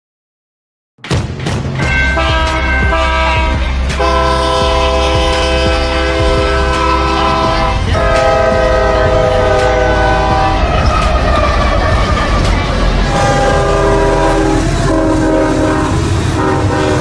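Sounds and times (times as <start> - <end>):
locomotive air horn chord: 1.9 - 11.4, 12.8 - 17.0.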